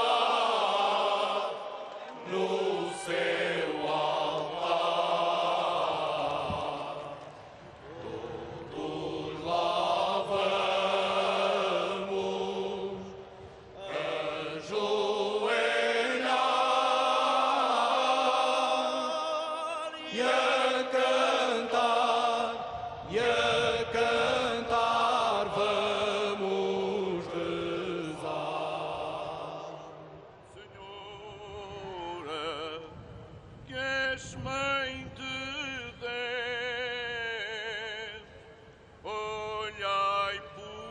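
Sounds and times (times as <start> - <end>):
male choir singing unaccompanied: 0.0 - 33.0, 39.0 - 40.9.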